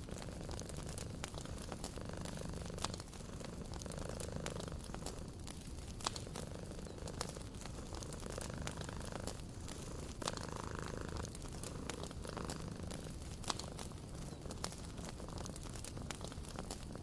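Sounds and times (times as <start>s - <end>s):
fire snaps and pops: 0.0s - 17.0s
wood fire crackling: 0.0s - 17.0s.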